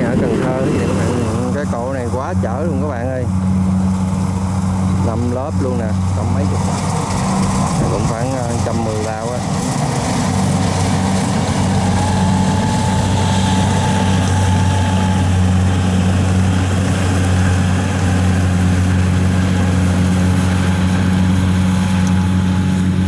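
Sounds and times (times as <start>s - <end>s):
tracked carrier engine droning: 0.0s - 23.0s.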